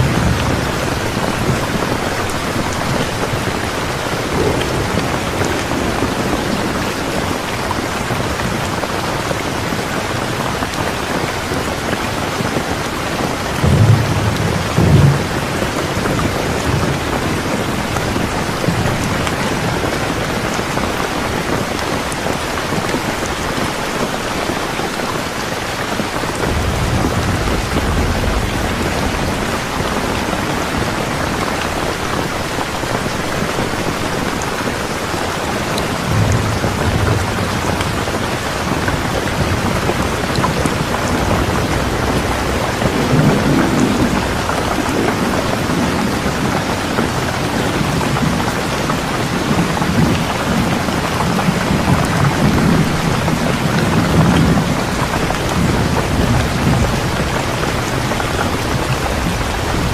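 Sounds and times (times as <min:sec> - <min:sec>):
heavy rain falling: 0:00.0 - 0:59.9
low thunder rumbles: 0:00.0 - 0:59.9.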